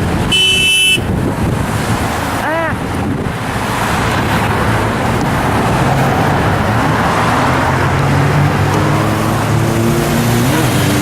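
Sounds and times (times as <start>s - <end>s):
freeway traffic roar: 0.0s - 11.0s
low engine hum: 1.0s - 11.0s.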